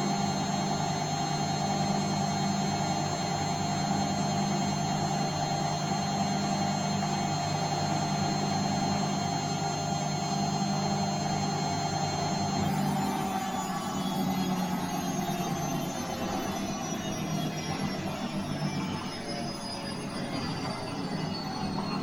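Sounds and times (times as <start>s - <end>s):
washing machine motor hum and whine: 0.0s - 22.0s.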